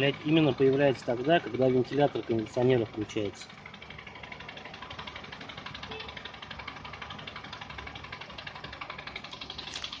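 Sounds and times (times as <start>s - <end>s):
car engine idling: 0.0s - 10.0s
fast knocking rattle: 0.0s - 10.0s.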